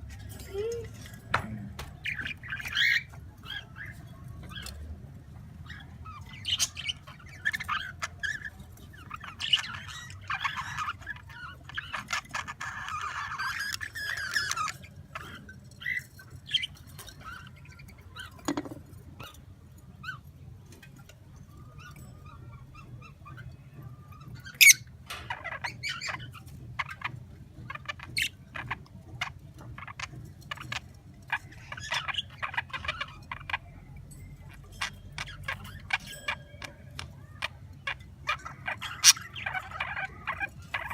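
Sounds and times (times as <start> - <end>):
pet birds chirping: 0.0 - 40.9.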